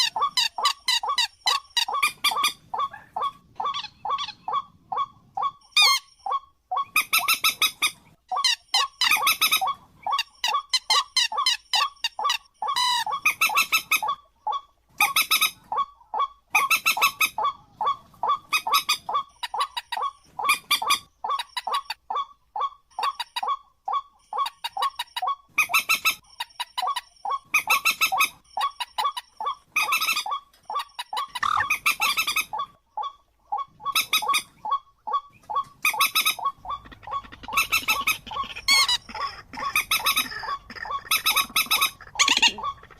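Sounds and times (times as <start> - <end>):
bird calling harshly: 0.0 - 26.2, 27.3 - 42.9.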